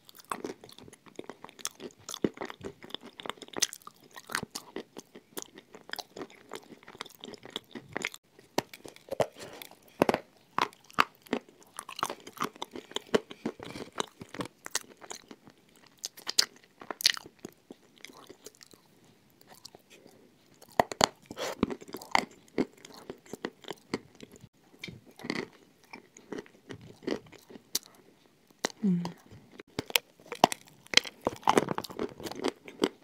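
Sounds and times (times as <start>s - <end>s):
crunching and chewing: 0.0s - 33.0s.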